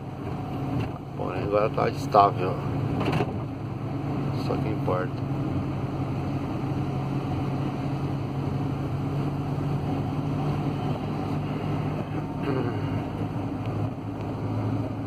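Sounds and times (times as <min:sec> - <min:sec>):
diesel van engine running: 0:00.0 - 0:15.0
road noise: 0:00.0 - 0:15.0.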